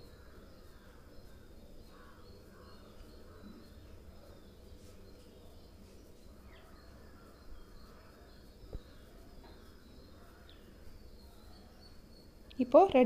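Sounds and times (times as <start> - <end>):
faint bird chirps: 0.0 - 13.0
faint low hum: 0.0 - 13.0.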